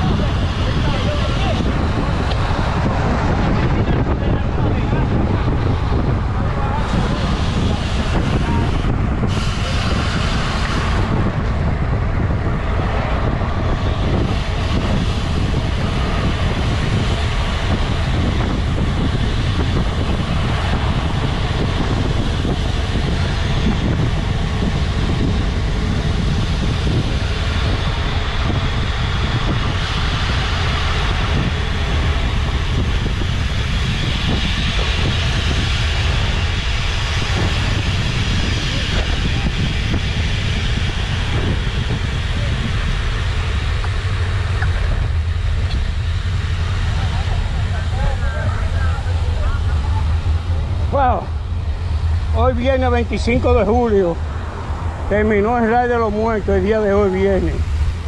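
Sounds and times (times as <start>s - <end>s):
bike road rumble: 0.0s - 58.0s
wind on microphone: 0.0s - 58.0s.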